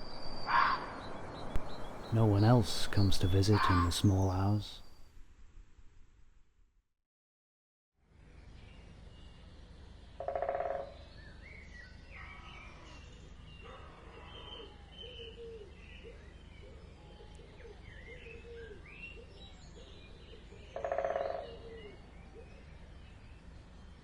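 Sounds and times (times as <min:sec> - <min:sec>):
faint bird chirps: 0:00.0 - 0:05.1, 0:08.3 - 0:24.0.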